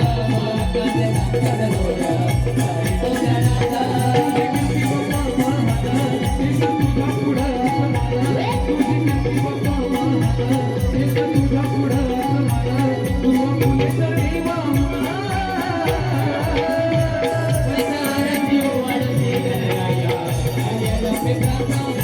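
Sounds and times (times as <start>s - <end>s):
drum beat: 0.0s - 22.0s.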